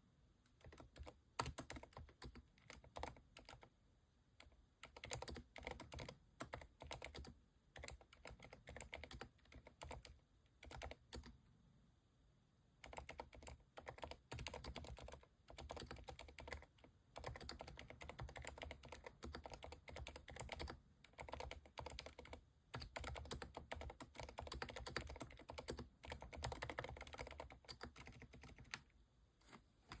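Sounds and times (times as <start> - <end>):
muted keyboard keystrokes: 0.5 - 3.7, 4.4 - 11.4, 12.8 - 28.9.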